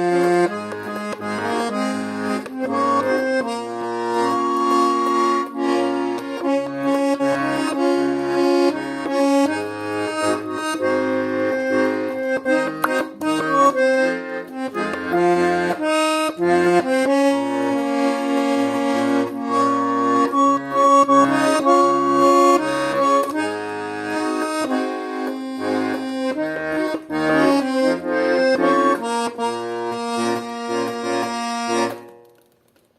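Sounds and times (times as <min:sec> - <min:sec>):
button accordion playing melody: 0:00.0 - 0:32.2.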